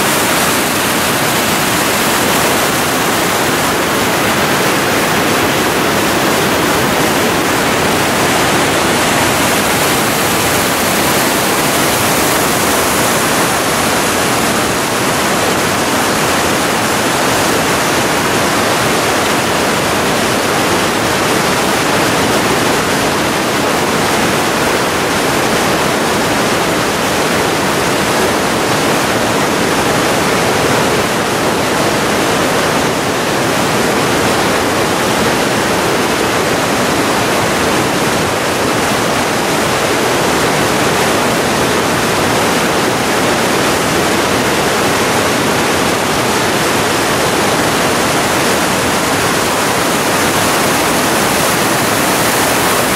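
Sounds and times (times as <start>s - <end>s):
water rushing over rocks: 0.0s - 52.9s.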